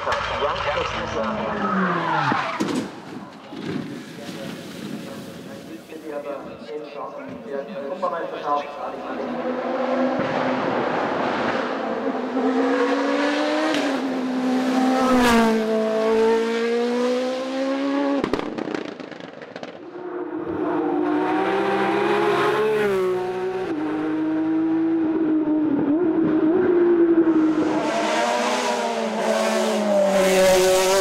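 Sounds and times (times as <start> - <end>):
race car engine at full throttle: 0.0 - 3.0, 8.0 - 31.0.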